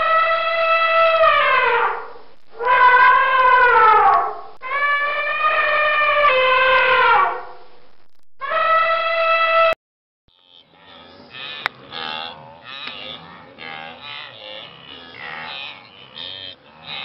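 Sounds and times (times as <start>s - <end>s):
elephant trumpeting: 0.0s - 7.5s, 10.6s - 17.0s.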